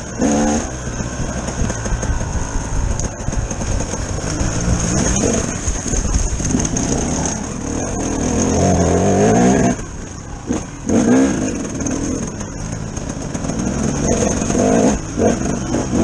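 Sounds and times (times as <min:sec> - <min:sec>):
bike rattling and knocking: 0:00.0 - 0:16.0
motorcycle engine running: 0:00.0 - 0:16.0.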